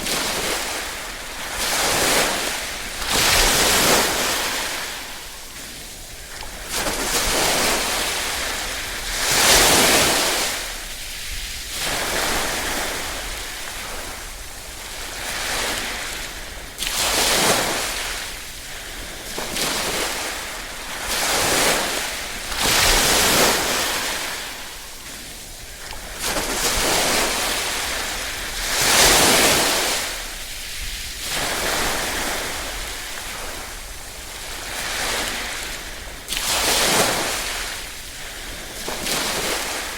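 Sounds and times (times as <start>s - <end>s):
small waves washing ashore: 0.0s - 39.9s.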